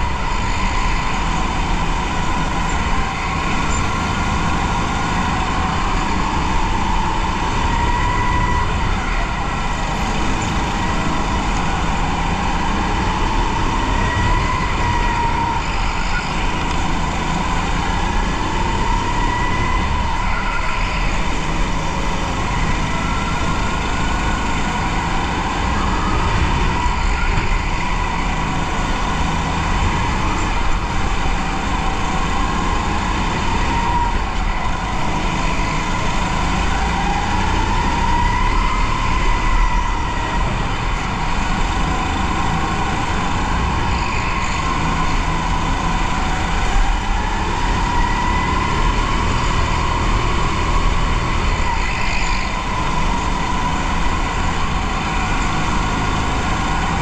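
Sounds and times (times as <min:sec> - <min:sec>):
go-kart engine whine: 0:00.0 - 0:57.0.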